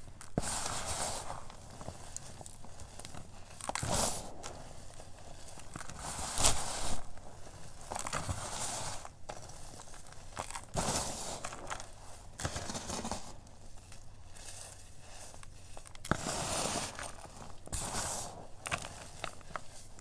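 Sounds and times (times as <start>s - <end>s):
bare feet crunching chalk: 0.0s - 20.0s.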